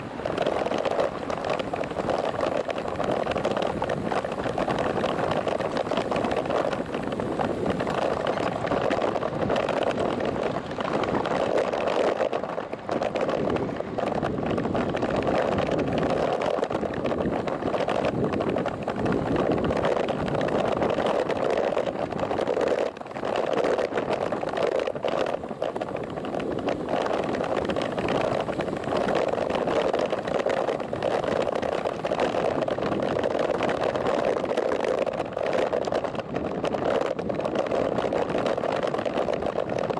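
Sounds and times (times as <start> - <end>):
bicycle road noise: 0.0 - 39.9
wind rushing: 0.0 - 39.9.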